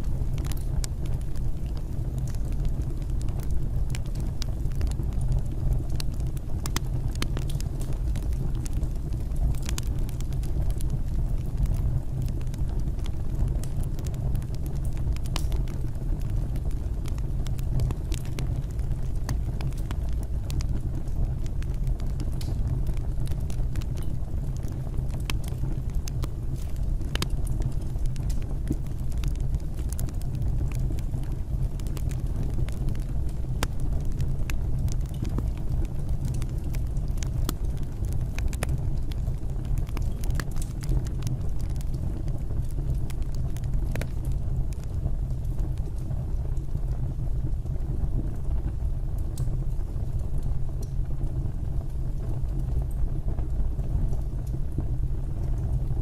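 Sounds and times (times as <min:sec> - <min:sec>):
fire burning in fireplace: 0:00.0 - 0:56.0.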